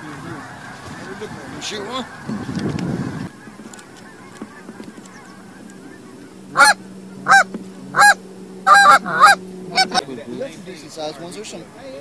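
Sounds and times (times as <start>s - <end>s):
goose honking: 0.0s - 11.8s.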